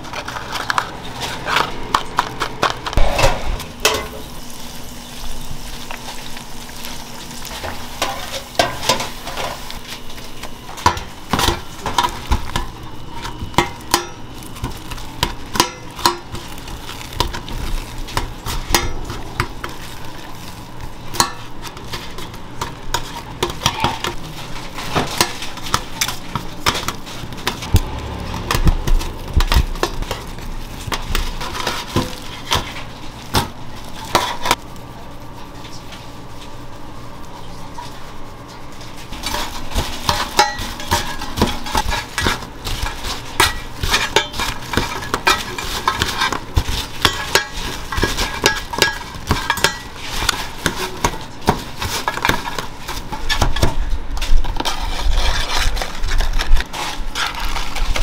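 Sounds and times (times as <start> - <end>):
utensils and dishes clattering: 0.0 - 4.4, 5.8 - 34.6, 37.4 - 58.0.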